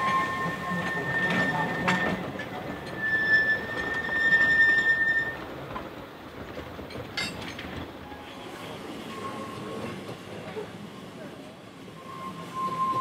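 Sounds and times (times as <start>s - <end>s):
steam train running past: 0.0s - 7.1s, 7.9s - 13.0s.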